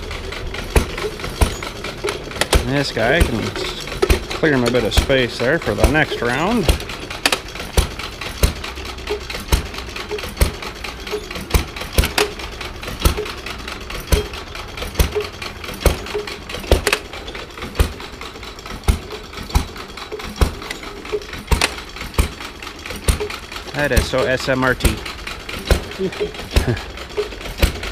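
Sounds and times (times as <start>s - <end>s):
mechanical hum: 0.0s - 27.9s.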